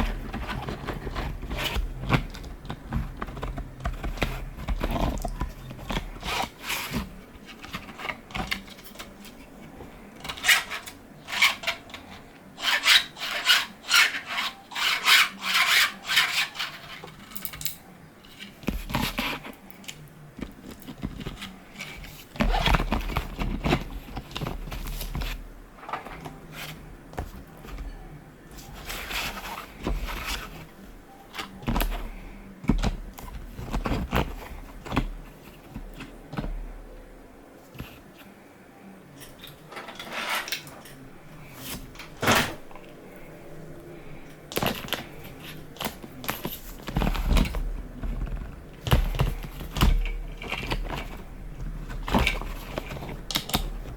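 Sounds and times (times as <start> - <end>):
plastic parts scraping together: 0.0 - 37.1, 39.2 - 53.9.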